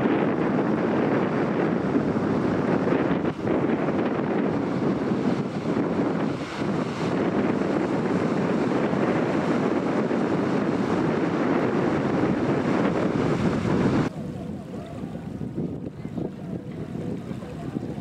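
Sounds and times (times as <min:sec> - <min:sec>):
ferry engines and wake rushing: 0:00.0 - 0:18.0
wind on microphone: 0:00.0 - 0:18.0.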